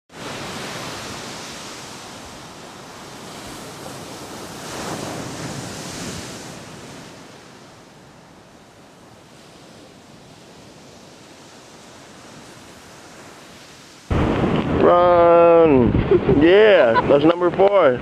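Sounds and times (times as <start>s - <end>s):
small waves washing on beach: 0.1s - 18.0s.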